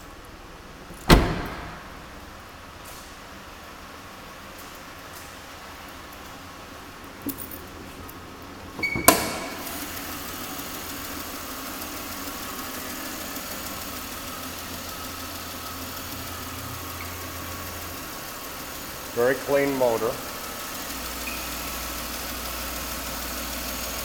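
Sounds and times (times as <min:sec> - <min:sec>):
car engine starting and idling: 0:00.0 - 0:24.0.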